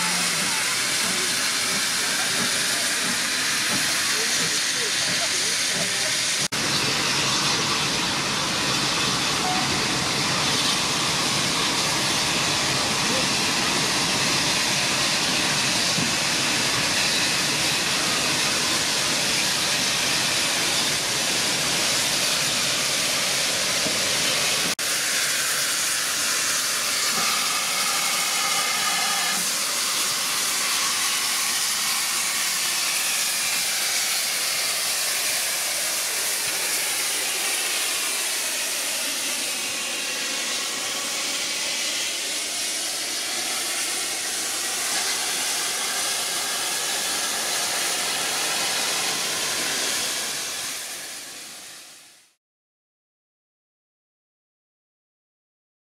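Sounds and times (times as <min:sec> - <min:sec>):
steam locomotive hissing steam: 0:00.0 - 0:52.4.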